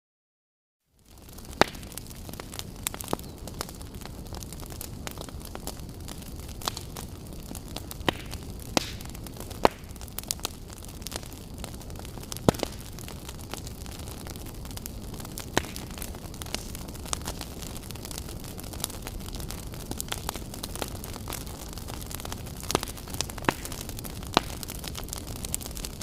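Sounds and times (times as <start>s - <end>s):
wood fire crackling and popping: 1.0s - 26.0s.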